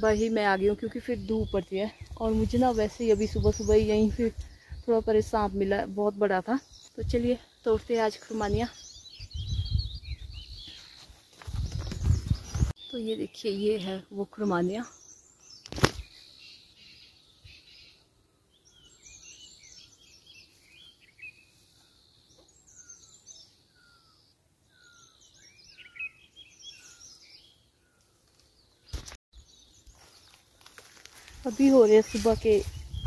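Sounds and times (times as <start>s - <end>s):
birds chirping and twittering: 0.0s - 33.0s.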